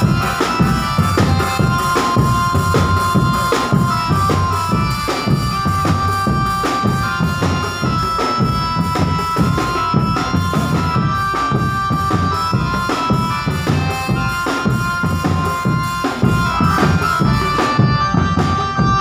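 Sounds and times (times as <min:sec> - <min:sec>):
drums beating: 0:00.0 - 0:19.0
melody instrument holding long notes: 0:00.0 - 0:19.0.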